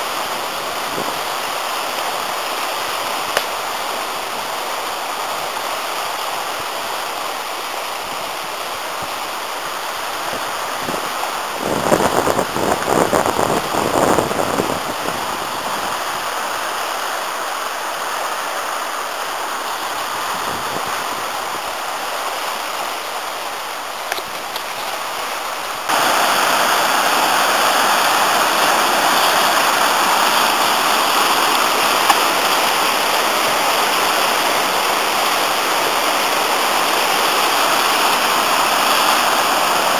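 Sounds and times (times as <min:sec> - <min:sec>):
fast-flowing river water rushing: 0:00.0 - 0:39.9.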